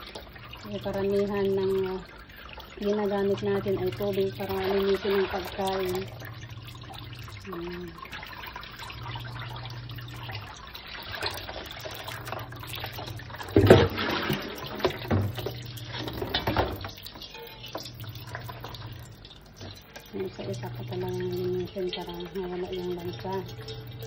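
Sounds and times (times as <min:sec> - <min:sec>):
tap water splashing: 0:00.0 - 0:24.0.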